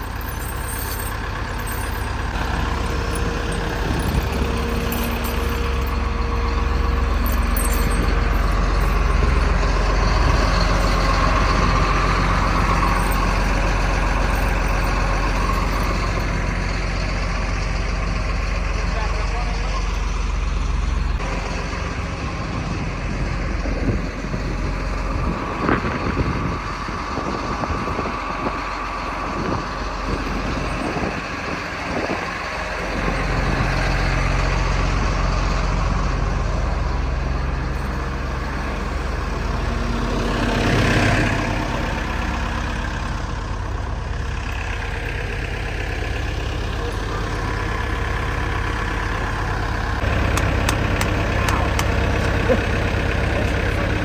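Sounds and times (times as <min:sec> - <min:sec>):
diesel engine idling: 0:00.0 - 0:54.0
engine knocks: 0:00.0 - 0:54.0.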